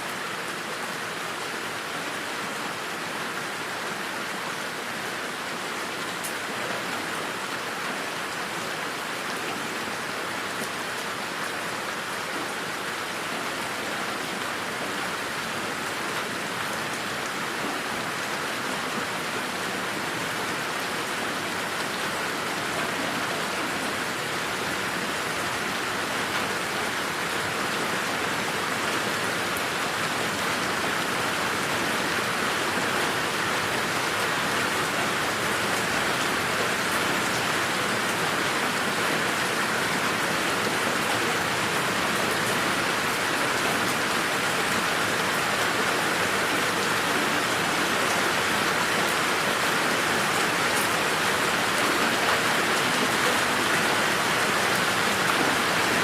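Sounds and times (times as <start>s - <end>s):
rain on leaves and ground: 0.0s - 56.0s.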